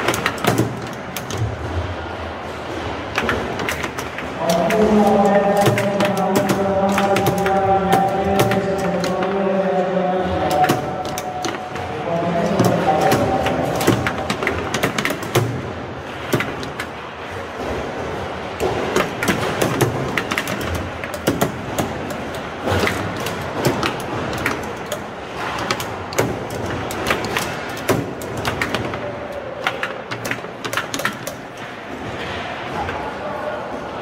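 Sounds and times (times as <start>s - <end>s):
table football clacks and knocks: 0.0s - 1.8s, 2.5s - 9.6s, 10.2s - 33.0s.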